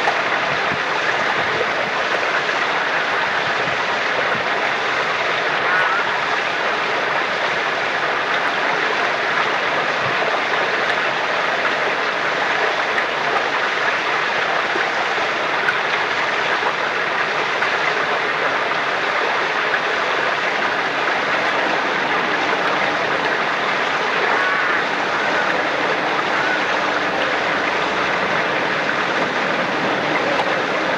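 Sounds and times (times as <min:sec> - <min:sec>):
water flowing from spring: 0:00.0 - 0:30.9.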